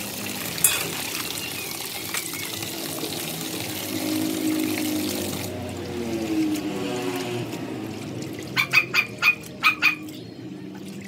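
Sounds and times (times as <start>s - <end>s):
water sloshing in plastic basin: 0.4s - 11.0s.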